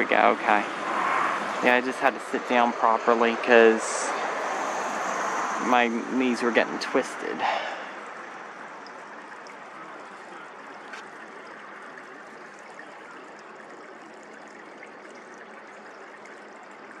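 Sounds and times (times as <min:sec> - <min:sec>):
flowing creek water: 0:00.0 - 0:17.0.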